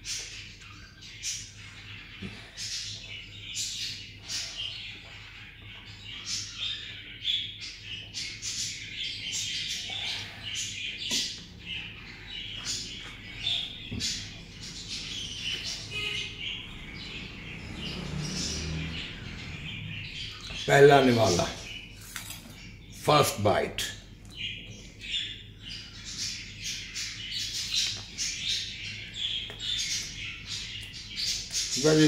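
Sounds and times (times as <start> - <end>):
many birds chirping: 0.0 - 32.0.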